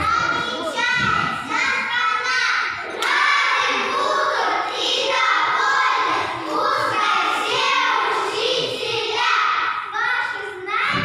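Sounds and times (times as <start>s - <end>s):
young children's voices: 0.0s - 11.0s.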